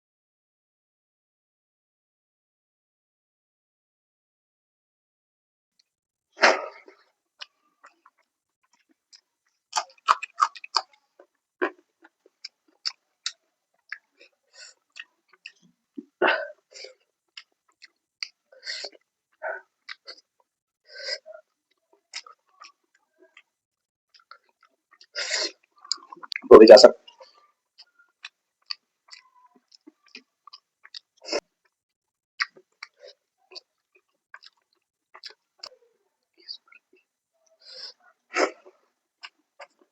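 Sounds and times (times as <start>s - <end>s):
chewing and mouth smacks: 5.8s - 26.5s, 27.1s - 31.8s, 32.4s - 39.9s.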